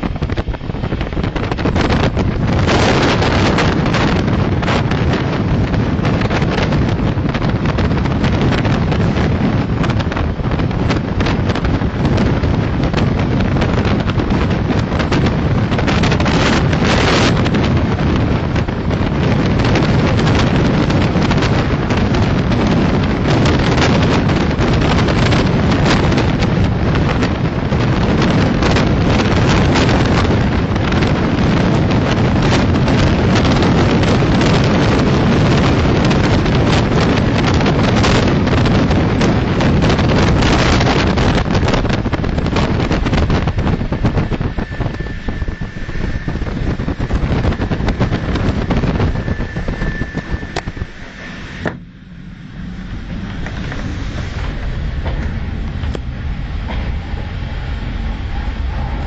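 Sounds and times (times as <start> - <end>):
train rushing noise: 0.0 - 59.0
wind buffeting microphone: 0.0 - 59.0.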